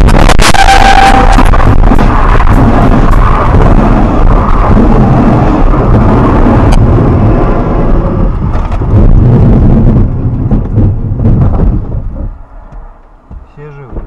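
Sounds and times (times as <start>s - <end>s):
heavy rumbling roar: 0.0s - 14.0s.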